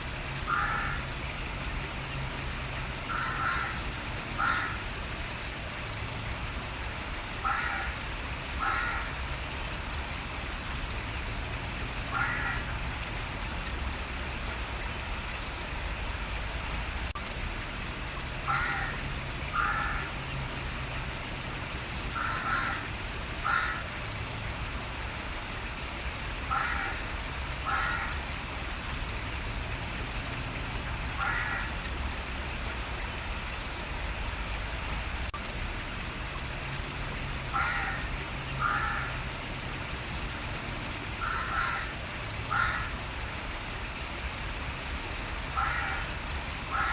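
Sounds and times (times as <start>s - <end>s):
running water: 0.0s - 46.9s.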